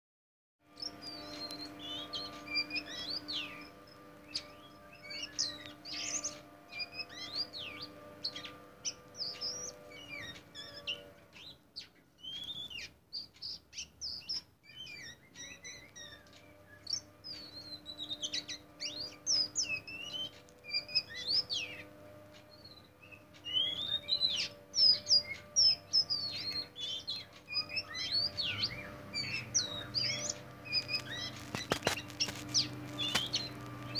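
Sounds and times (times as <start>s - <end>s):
steady low hum: 0.7s - 11.7s, 15.3s - 33.9s
bird singing whistled phrases: 0.8s - 3.7s, 4.3s - 21.9s, 22.5s - 33.9s.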